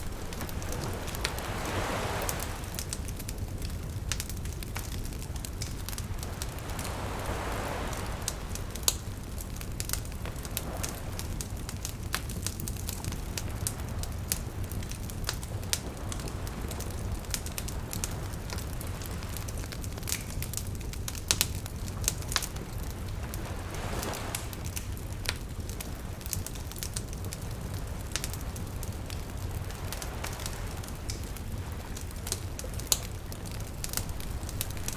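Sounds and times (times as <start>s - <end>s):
small waves washing in: 0.0s - 20.1s, 21.5s - 34.9s
wood fire crackling and popping: 0.0s - 34.9s.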